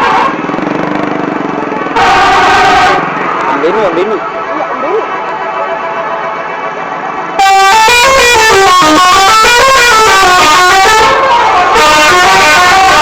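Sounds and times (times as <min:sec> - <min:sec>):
bus musical horn blaring: 0:00.0 - 0:00.4, 0:01.9 - 0:03.5, 0:04.1 - 0:13.0.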